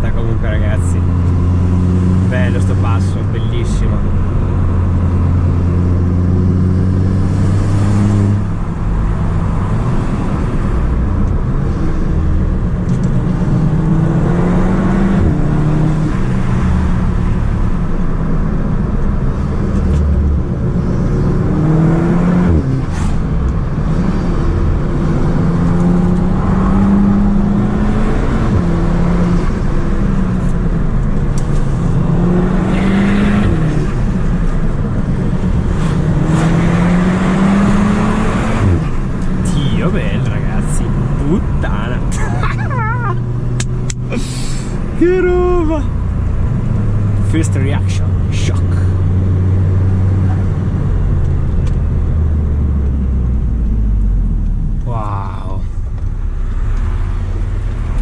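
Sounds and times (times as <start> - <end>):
car engine accelerating through gears: 0.4 - 45.0, 45.7 - 58.0.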